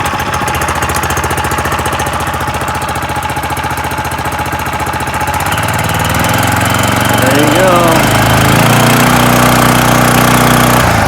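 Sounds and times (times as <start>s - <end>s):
boat motor idling: 0.0s - 11.0s.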